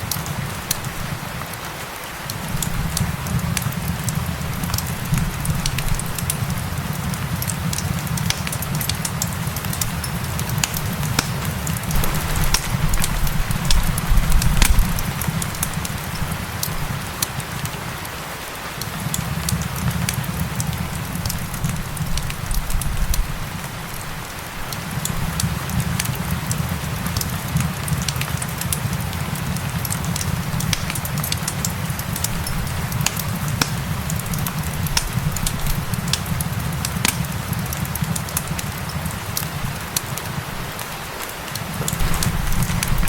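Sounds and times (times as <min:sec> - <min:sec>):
falling rain hiss: 0:00.0 - 0:43.0
wood fire crackling and popping: 0:00.0 - 0:43.0.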